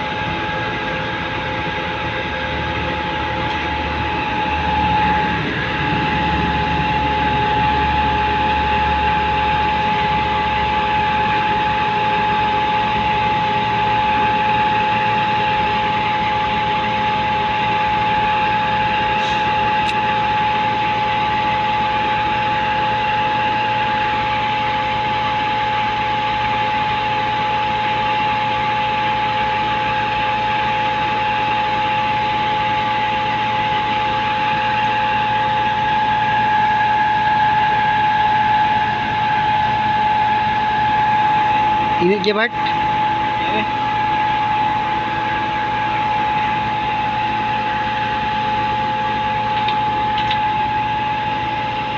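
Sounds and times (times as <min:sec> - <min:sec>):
diesel truck engine running: 0:00.0 - 0:51.9
high-pitched whine: 0:00.0 - 0:51.9.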